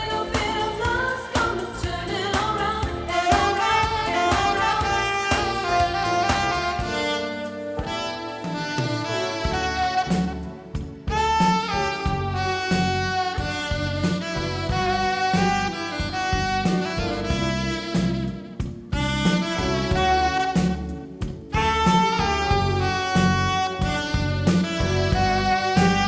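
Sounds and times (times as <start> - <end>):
bass: 0.0 - 26.0
drums: 0.0 - 26.0
jazz saxophone melody: 0.0 - 26.0.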